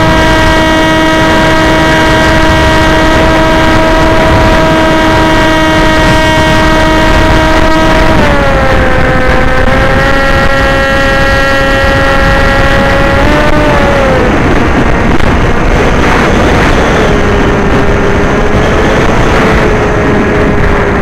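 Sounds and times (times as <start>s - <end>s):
motor and propeller whine: 0.0s - 21.0s
wind rush: 0.0s - 21.0s.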